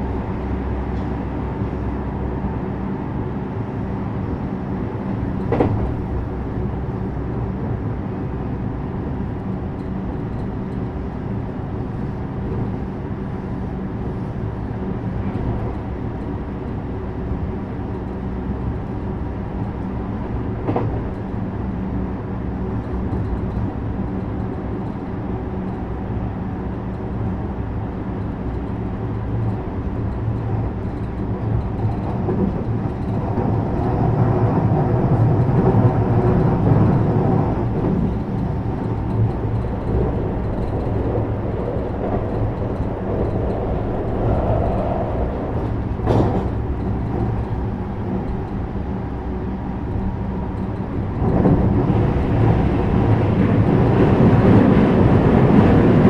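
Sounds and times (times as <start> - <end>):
train interior hum: 0.0 - 56.0.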